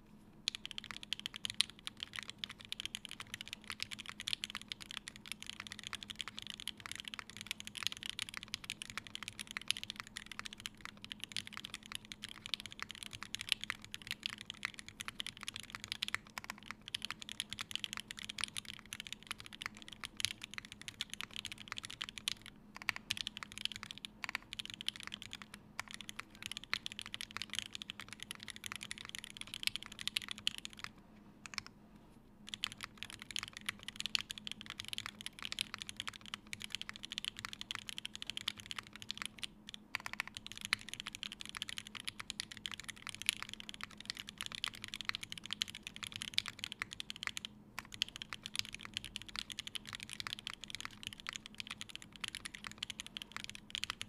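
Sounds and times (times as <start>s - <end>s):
mechanical keyboard typing: 0.5s - 31.7s, 32.5s - 54.0s.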